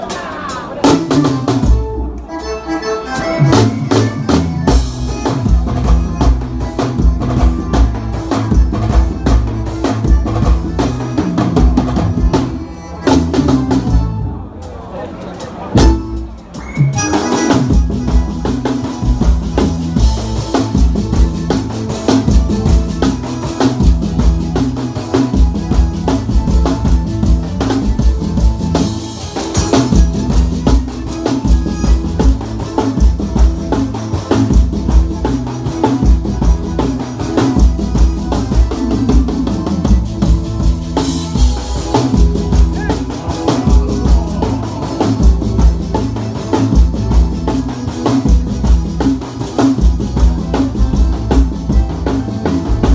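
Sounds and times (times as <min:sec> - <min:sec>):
drum kit beat: 0:00.0 - 0:02.4, 0:03.2 - 0:14.8, 0:15.7 - 0:52.9
keyboard chords: 0:00.9 - 0:14.9, 0:15.7 - 0:52.9
bass line: 0:03.2 - 0:14.6, 0:15.8 - 0:52.9.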